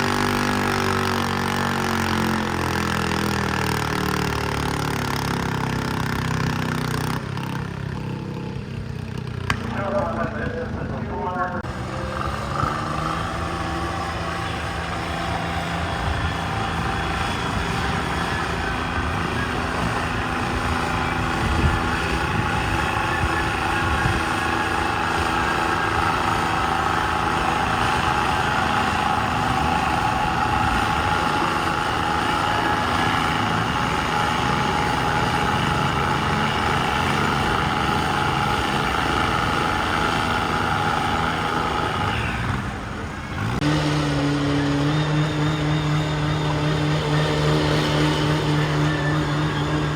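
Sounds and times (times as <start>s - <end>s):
tractor engine drone: 0.0s - 49.9s.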